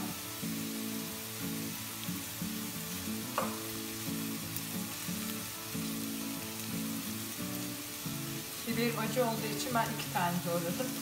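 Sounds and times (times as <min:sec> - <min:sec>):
soft background music: 0:00.0 - 0:11.0
vegetables sizzling in oil: 0:00.0 - 0:11.0.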